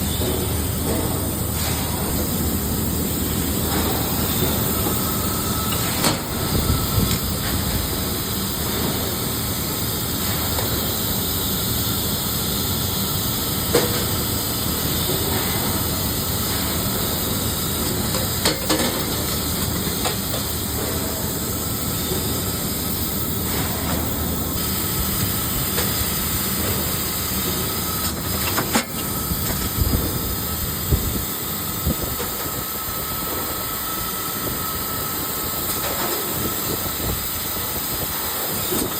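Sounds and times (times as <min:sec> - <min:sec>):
laser welding machine hissing: 0:00.0 - 0:38.9.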